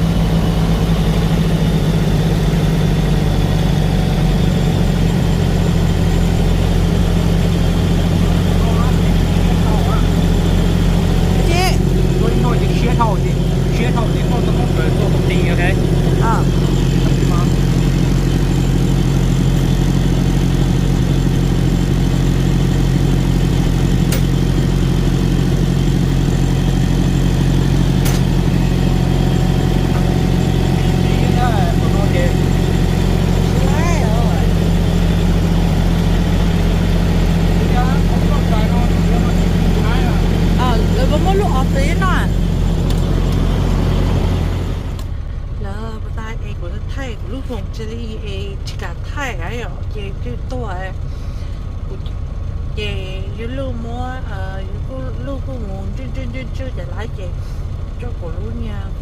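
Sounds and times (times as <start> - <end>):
truck engine humming: 0.0 - 59.0.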